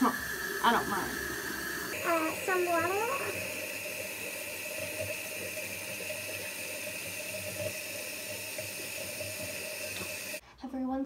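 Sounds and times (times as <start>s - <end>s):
faucet running into sink: 0.0s - 10.4s.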